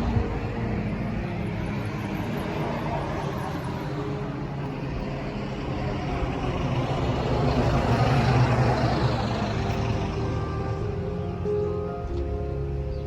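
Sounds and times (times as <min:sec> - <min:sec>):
vehicle passing by: 0:00.0 - 0:12.3.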